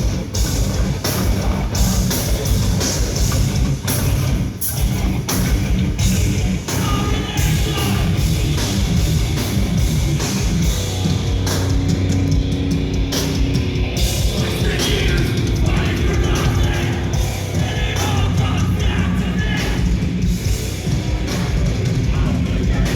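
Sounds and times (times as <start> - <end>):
heavy metal band playing live: 0.0 - 22.9.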